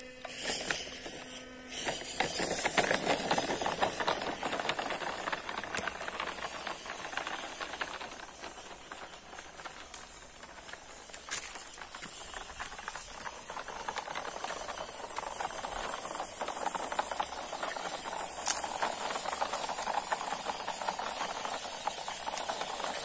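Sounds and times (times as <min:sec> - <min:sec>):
rc truck rattling over concrete: 0:00.0 - 0:23.0.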